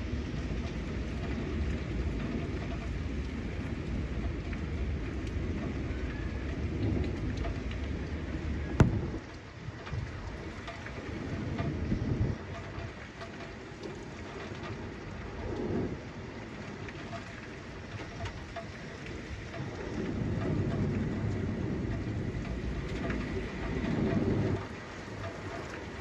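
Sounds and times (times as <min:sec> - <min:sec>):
rain falling: 0:00.0 - 0:26.0
thunder rumbling: 0:00.0 - 0:26.0.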